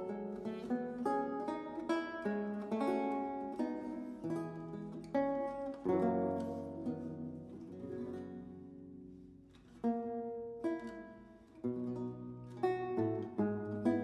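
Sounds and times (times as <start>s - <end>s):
solo lute playing: 0.0s - 14.0s.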